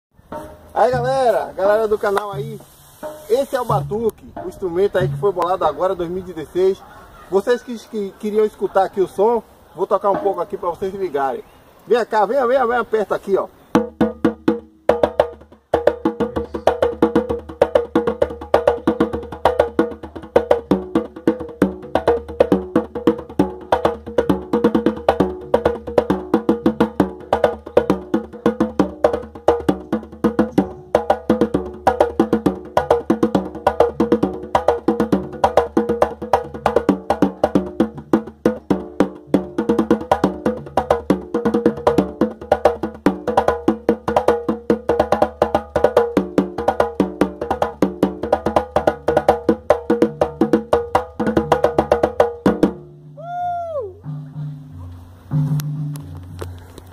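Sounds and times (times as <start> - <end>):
percussion knocking with pitched tones: 0.2 - 5.9, 13.7 - 53.4, 54.0 - 56.5.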